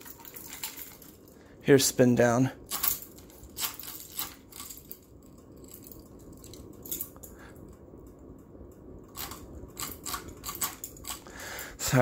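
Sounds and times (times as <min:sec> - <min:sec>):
ceiling fan whirring: 0:00.0 - 0:12.0.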